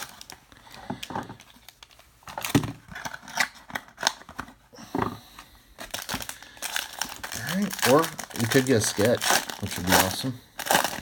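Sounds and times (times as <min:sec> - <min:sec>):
card wrapper rustling and crinkling: 0:00.0 - 0:04.7, 0:05.7 - 0:11.0.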